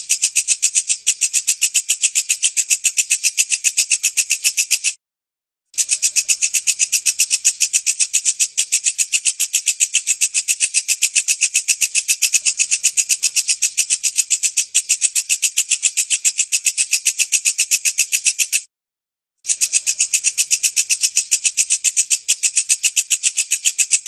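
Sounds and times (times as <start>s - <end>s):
insect rattling chirp: 0.0s - 5.0s, 5.8s - 18.7s, 19.4s - 24.0s.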